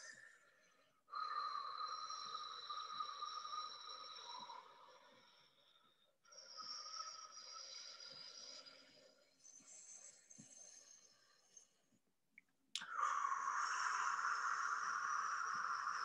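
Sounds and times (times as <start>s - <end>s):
long slow breaths: 0.0s - 11.8s, 12.8s - 16.0s.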